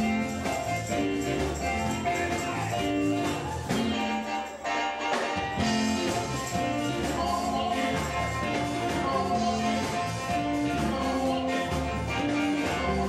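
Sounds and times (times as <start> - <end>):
backing band: 0.0 - 13.0
gospel voices singing: 1.8 - 13.0.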